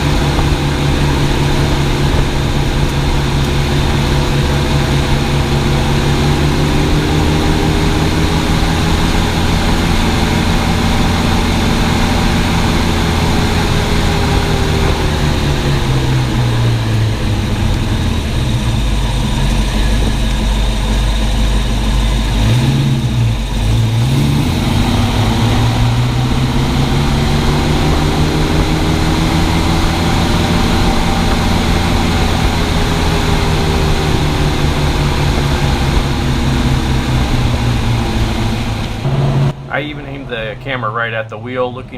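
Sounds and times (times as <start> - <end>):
car engine: 0.0 - 41.9
road noise: 0.0 - 41.9.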